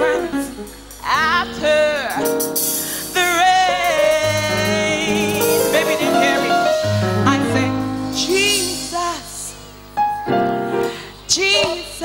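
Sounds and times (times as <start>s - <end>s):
woman singing gospel: 0.0s - 9.7s, 10.9s - 12.0s
piano chords: 0.0s - 12.0s.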